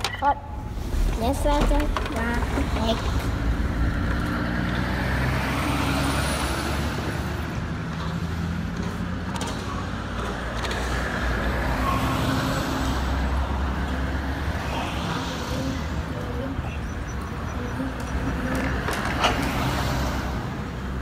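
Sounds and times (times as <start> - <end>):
truck engine rumble: 0.0 - 11.8, 12.4 - 21.0.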